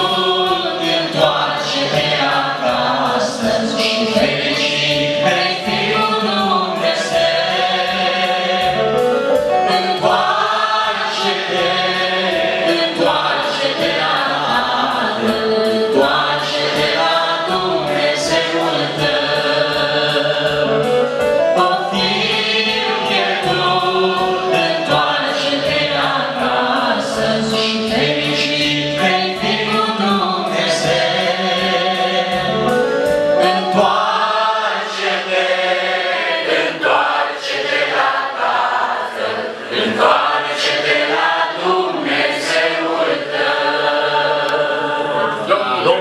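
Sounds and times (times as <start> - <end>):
congregation singing a hymn: 0.0 - 46.0.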